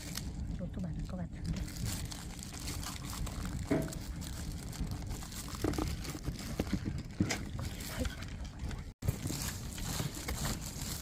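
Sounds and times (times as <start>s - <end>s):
fire crackles and knocks: 0.0s - 11.0s
wood fire rumbling: 0.0s - 11.0s.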